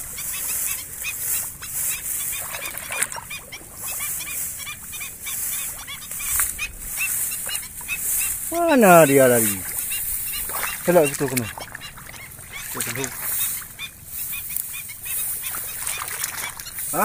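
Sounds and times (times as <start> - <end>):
bird calling rapidly: 0.0 - 17.0
rice stalks rustling: 0.0 - 17.0.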